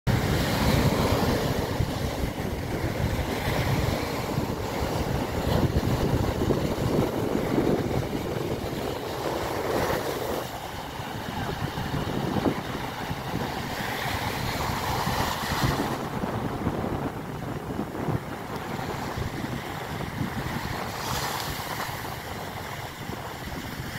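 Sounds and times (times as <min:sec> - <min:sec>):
waves breaking on sandy beach: 0:00.1 - 0:23.9
wind buffeting microphone: 0:00.1 - 0:23.9.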